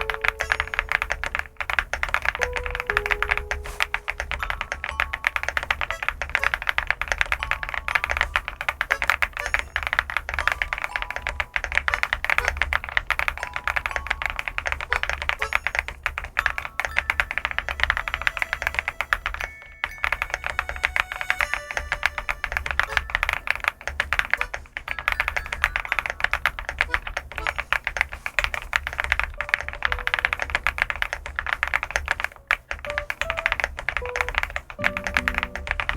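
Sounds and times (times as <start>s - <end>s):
mechanical keyboard typing: 0.0s - 35.9s.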